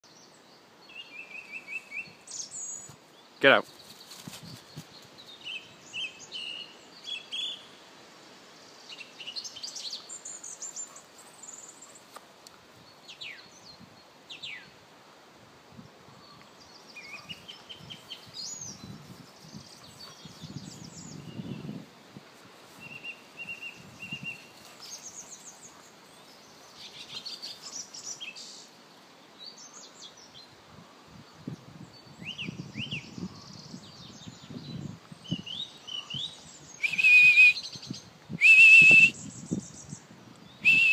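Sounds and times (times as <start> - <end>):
faint outdoor hiss: 0.0 - 40.9
wild birds singing: 0.0 - 40.9.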